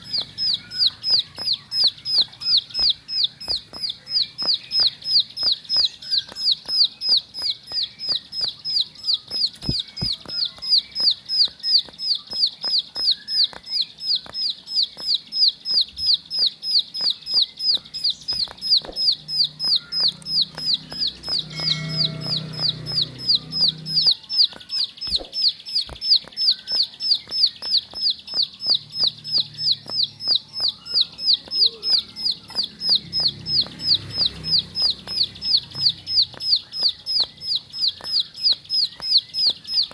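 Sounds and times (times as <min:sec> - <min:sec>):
bird singing high chirping notes: 0:00.0 - 0:39.9.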